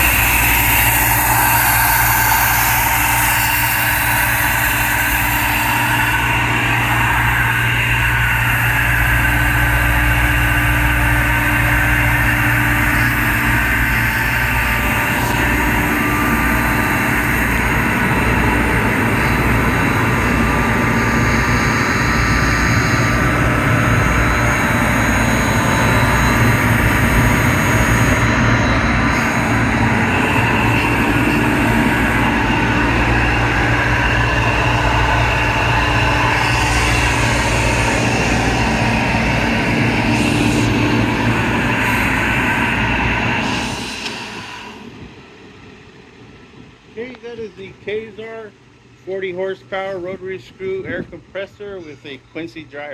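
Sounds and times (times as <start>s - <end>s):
air compressor humming: 0.0s - 52.5s.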